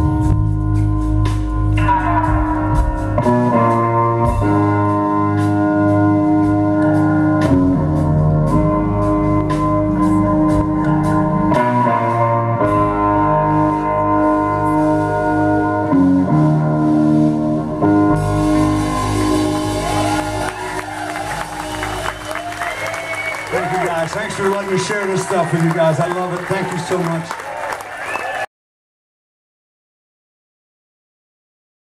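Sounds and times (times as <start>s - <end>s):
electric guitar chords: 0.0s - 26.0s
bass: 0.0s - 27.1s.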